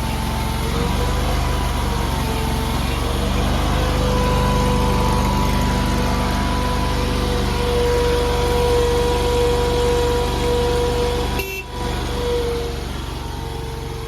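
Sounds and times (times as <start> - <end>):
skid steer engine whining: 0.0 - 14.0.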